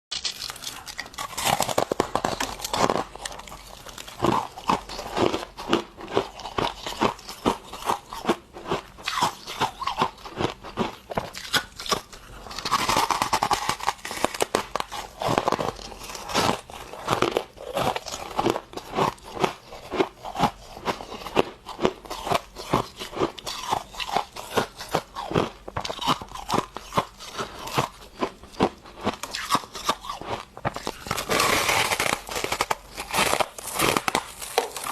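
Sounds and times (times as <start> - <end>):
person chewing crunchy frost: 0.1 - 34.9.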